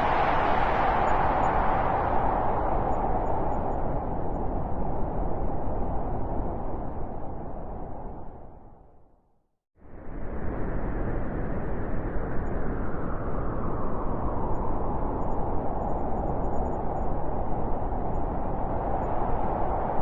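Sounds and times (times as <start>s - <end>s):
wind blowing steadily: 0.0s - 9.1s, 9.8s - 20.0s.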